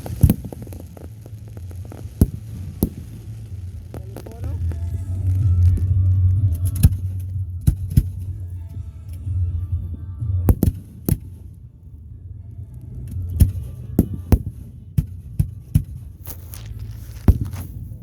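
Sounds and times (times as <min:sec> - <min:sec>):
fireworks banging: 0:00.0 - 0:11.6, 0:12.9 - 0:18.0
low rumble: 0:00.0 - 0:18.0.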